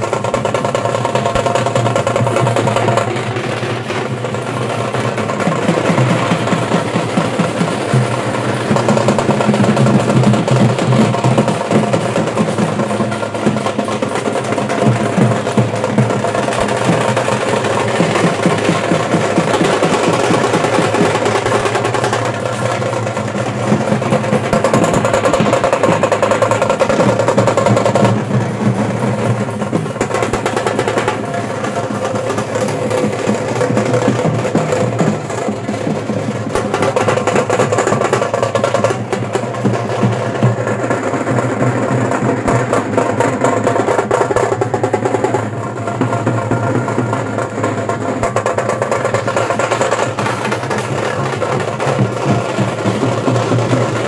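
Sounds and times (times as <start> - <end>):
fast rolling drumming: 0.0 - 54.0.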